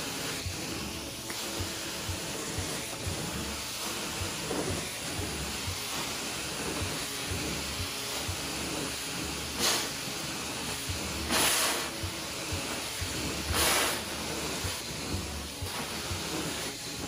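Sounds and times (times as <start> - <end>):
carpet cleaning wand suction hiss: 0.0 - 17.0.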